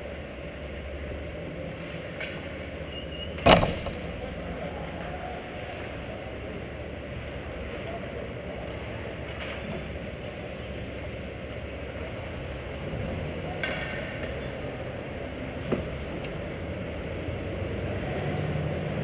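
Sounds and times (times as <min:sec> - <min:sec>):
low hum and hiss: 0:00.0 - 0:19.0.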